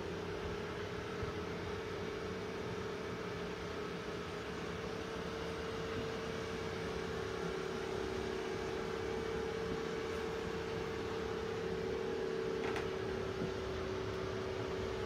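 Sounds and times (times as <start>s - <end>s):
ventilation blower humming: 0.0s - 15.0s.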